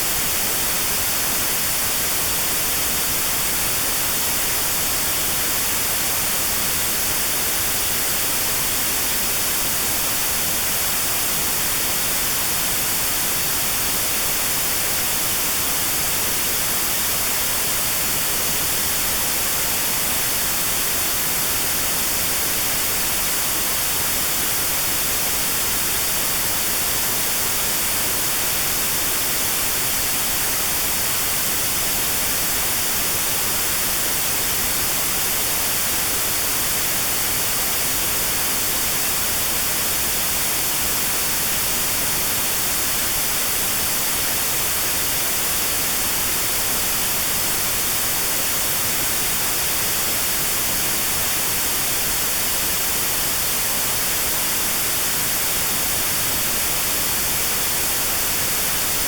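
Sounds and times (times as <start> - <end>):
notch-filtered white noise: 0.0 - 59.0.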